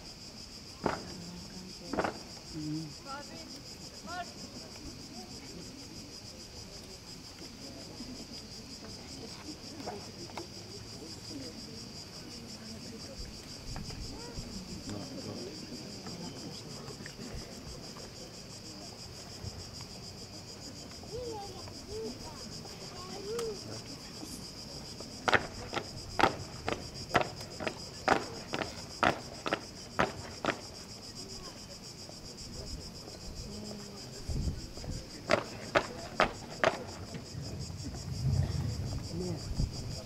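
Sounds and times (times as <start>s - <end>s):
faint distant voices: 0.0s - 40.0s
insect chorus trilling: 0.0s - 40.0s
low background murmur: 0.0s - 40.0s.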